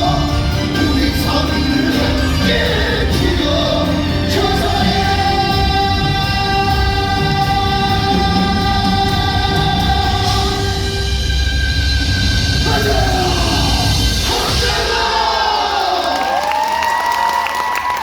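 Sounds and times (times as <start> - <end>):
stage musical singing with accompaniment: 0.0 - 16.6.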